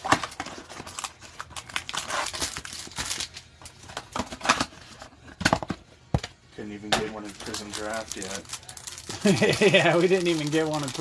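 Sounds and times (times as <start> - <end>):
cardboard and plastic tearing: 0.0 - 5.7, 7.1 - 11.0.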